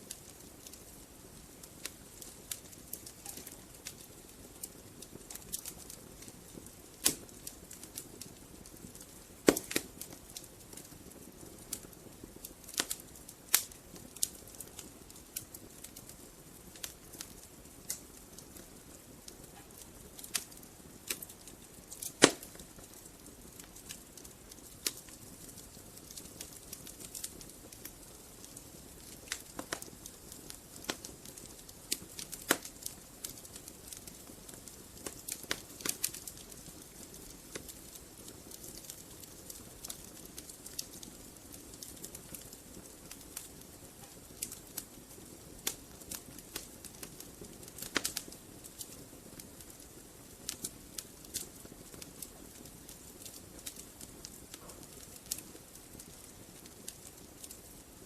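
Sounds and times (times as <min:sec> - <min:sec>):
fire hissing: 0:00.0 - 0:57.8
wood fire crackling and popping: 0:00.0 - 0:58.0.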